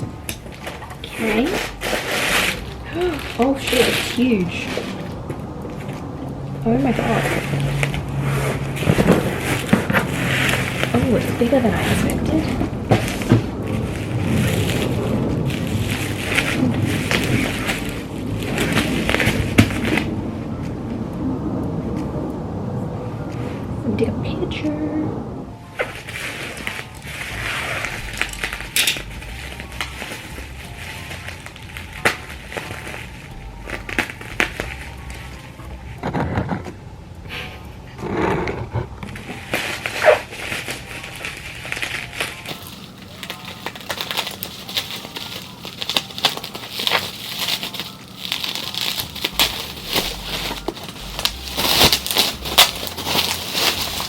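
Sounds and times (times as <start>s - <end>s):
packaging rustling and crinkling: 0.0s - 20.2s, 25.8s - 36.8s, 39.0s - 54.0s.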